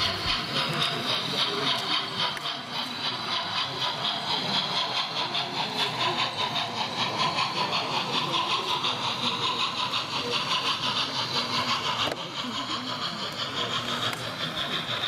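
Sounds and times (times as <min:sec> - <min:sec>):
model steam train chuffing: 0:00.0 - 0:15.0.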